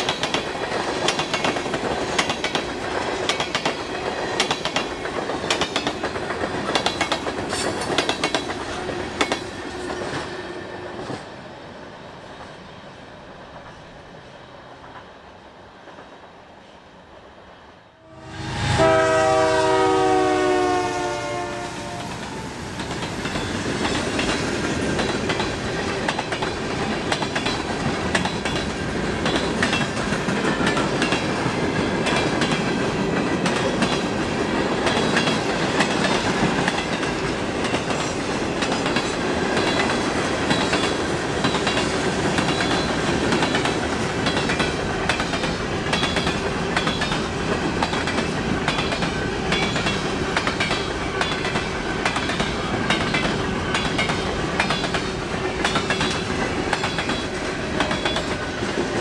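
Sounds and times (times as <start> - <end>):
train wheels clacking on rails: 0.0 - 11.5, 18.6 - 59.0.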